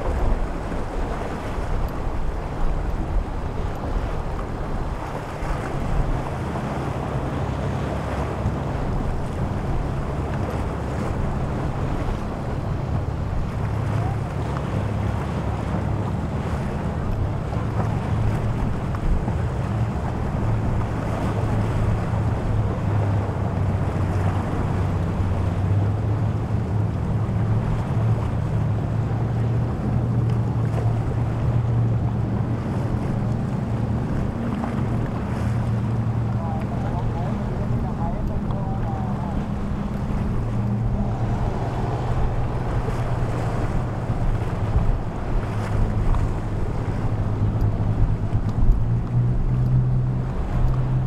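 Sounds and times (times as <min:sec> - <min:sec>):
motorboat engines humming: 0:00.0 - 0:51.0
waves washing: 0:00.0 - 0:51.0
wind noise on microphone: 0:00.0 - 0:51.0.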